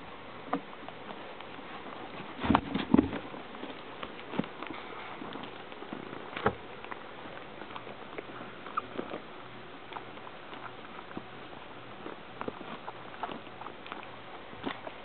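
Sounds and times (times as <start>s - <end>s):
puppies shuffling and scrabbling: 0.0s - 15.0s.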